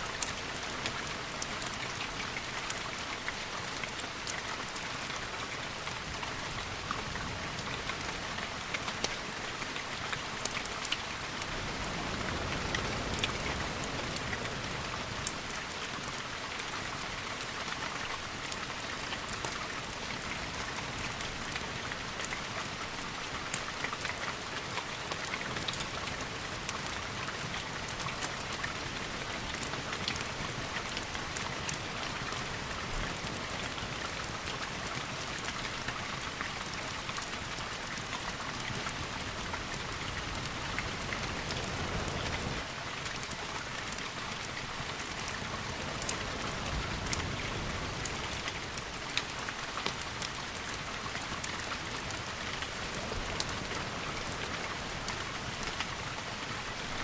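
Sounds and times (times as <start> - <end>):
sharp raindrop ticks: 0.0 - 57.0
steady rain hissing: 0.0 - 57.0.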